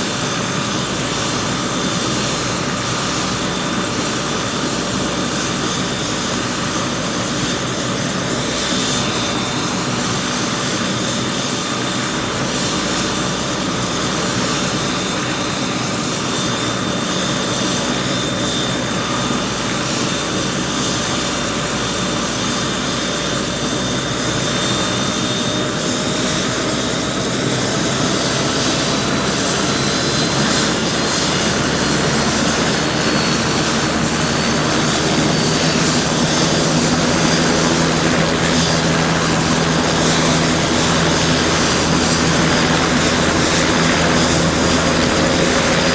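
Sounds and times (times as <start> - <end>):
helicopter engine and rotor: 0.0 - 45.9
high turbine whine: 0.0 - 45.9.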